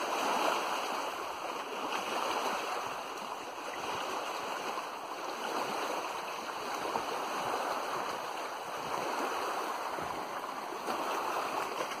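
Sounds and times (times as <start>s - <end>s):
water lapping and splashing: 0.0s - 12.0s.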